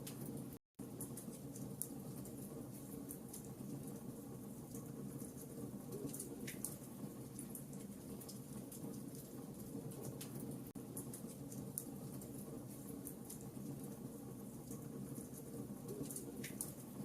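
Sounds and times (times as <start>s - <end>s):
campfire low rumble: 0.0s - 17.0s.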